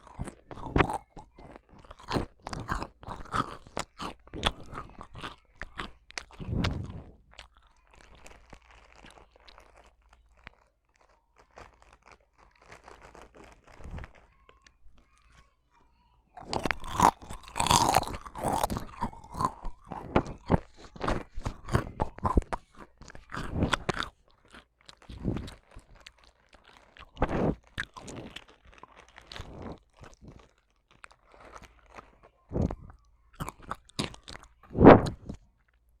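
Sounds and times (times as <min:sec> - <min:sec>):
crisp food crunching: 0:00.0 - 0:15.5, 0:16.4 - 0:35.9.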